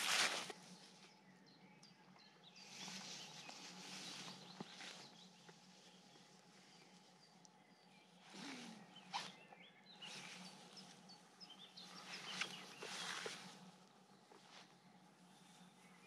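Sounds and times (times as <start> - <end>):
soft rustles: 0.0 - 1.2, 2.6 - 7.5, 8.2 - 16.0
distant birds chirping: 0.0 - 16.0.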